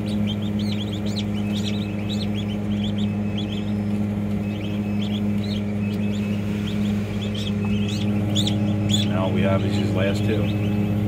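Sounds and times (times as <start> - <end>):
ducklings peeping: 0.0 - 11.0
low machine hum: 0.0 - 11.0.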